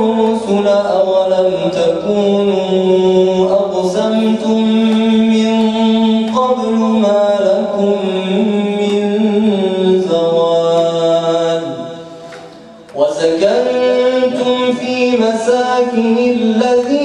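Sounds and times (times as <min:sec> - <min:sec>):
men chanting religious verse: 0:00.0 - 0:17.0.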